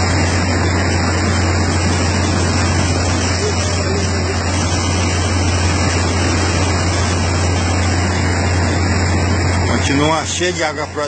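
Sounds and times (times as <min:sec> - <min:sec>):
boat engine droning: 0:00.0 - 0:11.0
river water rushing and splashing: 0:00.0 - 0:11.0.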